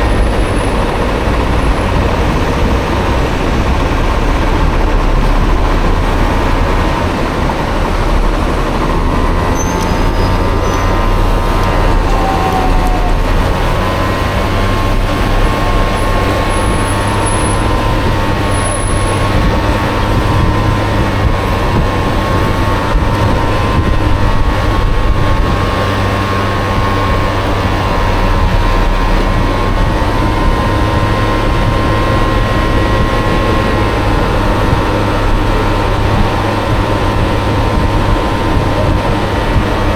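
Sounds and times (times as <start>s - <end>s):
heavy wind: 0.0s - 39.9s
road rumble: 0.0s - 39.9s
scooter engine whining: 0.0s - 39.9s.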